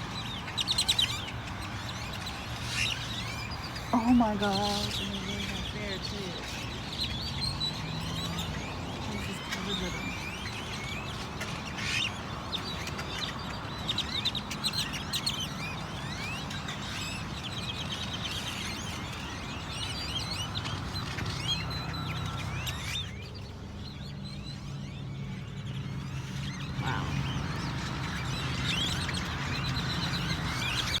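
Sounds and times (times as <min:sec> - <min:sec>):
birds chirping and calling: 0:00.0 - 0:31.0.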